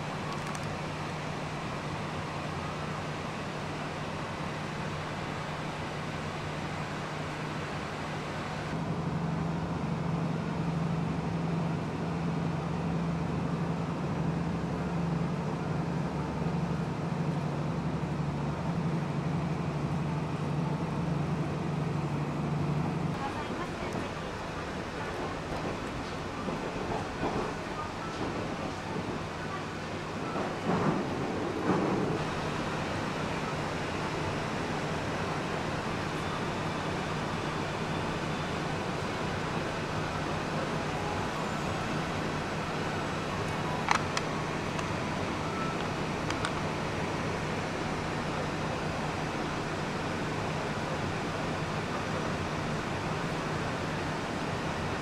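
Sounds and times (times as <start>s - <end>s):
diesel engine drone: 0.0s - 55.0s
railcar rumble with hiss: 0.0s - 55.0s
train track noise: 0.0s - 55.0s.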